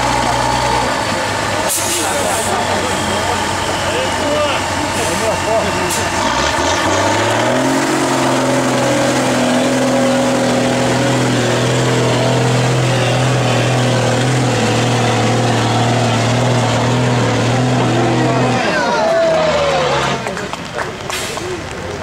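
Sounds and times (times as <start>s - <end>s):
truck engine running under load: 0.0s - 22.0s.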